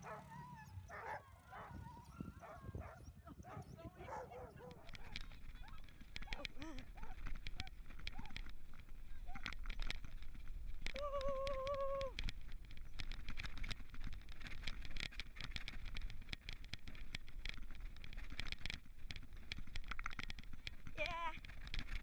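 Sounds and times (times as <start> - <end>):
cart rattling over dirt track: 0.0 - 22.0.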